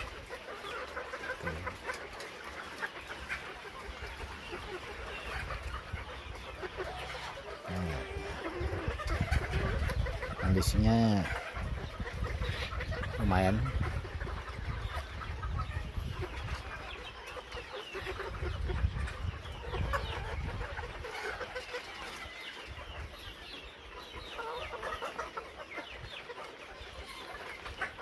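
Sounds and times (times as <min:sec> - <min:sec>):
hens clucking: 0:00.0 - 0:28.0.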